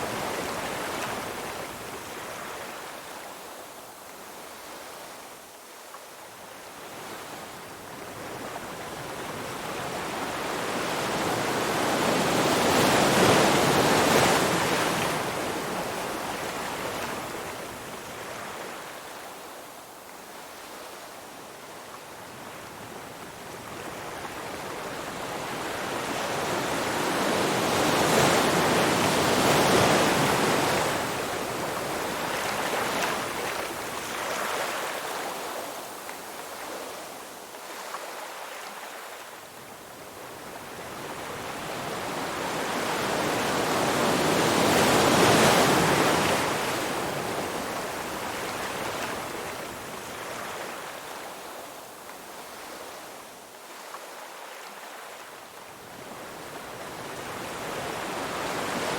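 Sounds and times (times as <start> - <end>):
ocean waves washing onto shore: 6.3 - 58.9.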